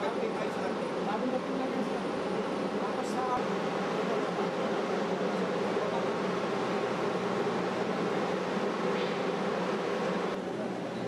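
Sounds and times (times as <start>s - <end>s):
machinery drone with buzzing hum: 0.0s - 11.0s.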